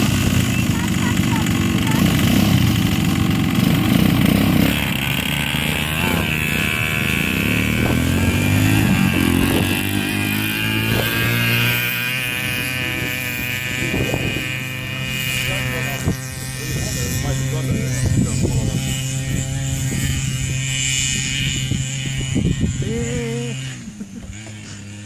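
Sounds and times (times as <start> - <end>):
small engines revving: 0.0 - 25.0.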